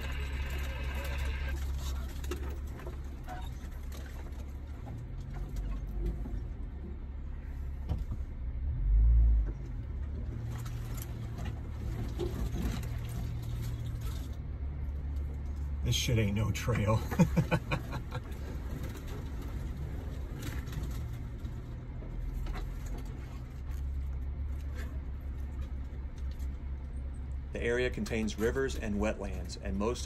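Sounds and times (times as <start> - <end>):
vehicle engine low rumble: 0.0 - 30.0.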